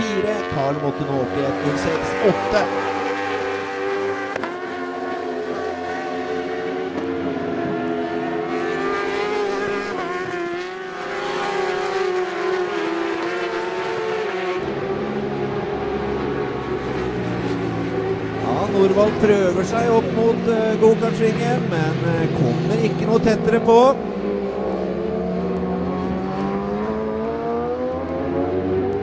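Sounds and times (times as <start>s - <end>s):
racing motorcycles passing: 0.0s - 29.0s.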